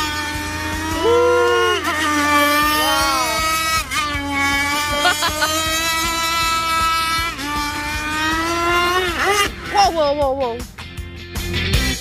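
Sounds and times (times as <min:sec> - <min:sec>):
model speedboat motor whine: 0:00.0 - 0:10.1.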